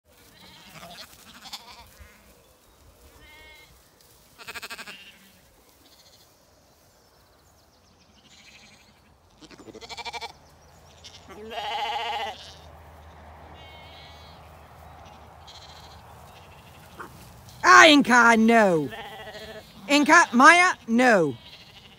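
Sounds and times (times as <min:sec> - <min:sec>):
sheep and lambs bleating: 0:00.1 - 0:02.4, 0:03.0 - 0:06.4, 0:07.9 - 0:12.8, 0:13.5 - 0:21.9.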